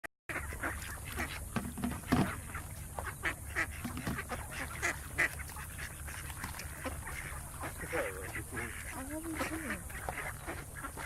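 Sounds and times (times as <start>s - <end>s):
ducks calling: 0.3s - 11.0s
steady low hum: 0.3s - 11.0s.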